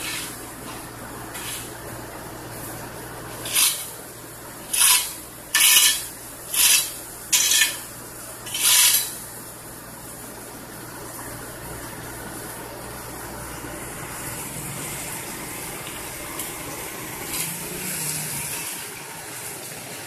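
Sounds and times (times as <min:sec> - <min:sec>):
road roller engine humming: 0:00.0 - 0:19.7.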